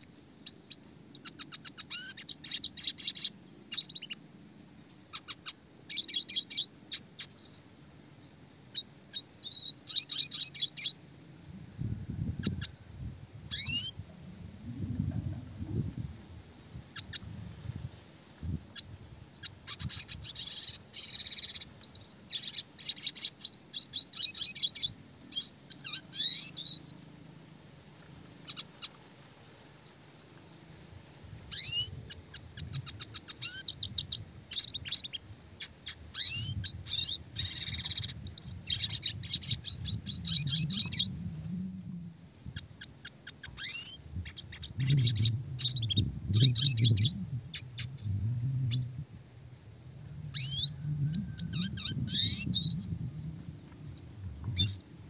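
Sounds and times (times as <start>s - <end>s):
bird singing chirps and trills: 0.0s - 4.3s, 4.9s - 11.0s, 11.8s - 17.3s, 18.7s - 27.0s, 28.4s - 29.0s, 29.8s - 41.3s, 42.6s - 49.1s, 50.1s - 55.0s.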